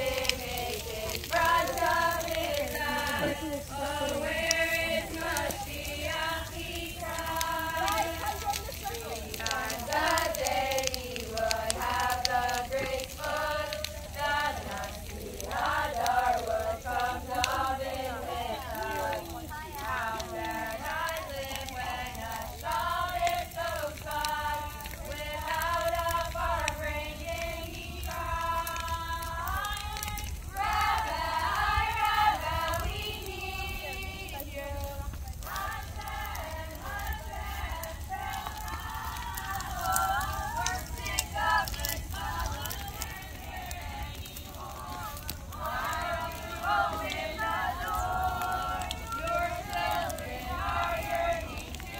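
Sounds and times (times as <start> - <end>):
girls singing together: 0.0 - 51.9.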